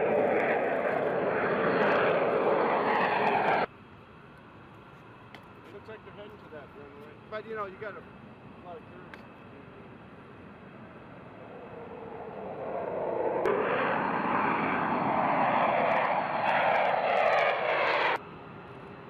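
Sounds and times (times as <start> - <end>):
jet fighters roaring overhead: 0.0 - 3.7, 5.8 - 19.0.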